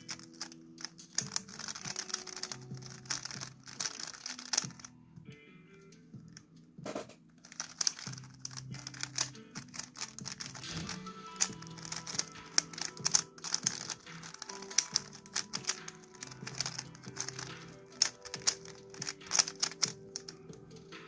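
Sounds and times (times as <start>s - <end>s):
puzzle cube clicking as turned: 0.0s - 5.0s, 7.4s - 20.9s
background music with low notes: 0.0s - 21.0s.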